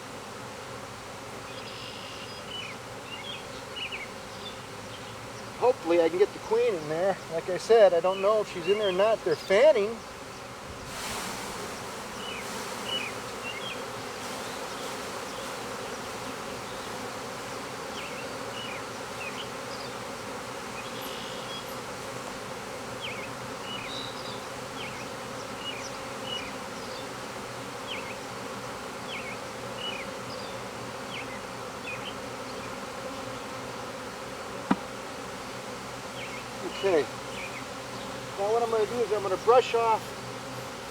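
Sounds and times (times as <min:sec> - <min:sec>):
bee swarm buzzing: 0:00.0 - 0:40.9.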